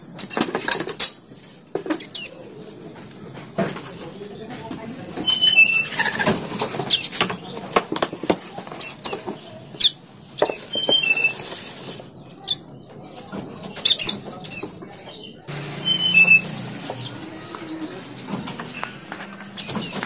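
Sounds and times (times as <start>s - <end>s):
nestlings chirping: 1.8s - 2.8s, 3.8s - 20.0s.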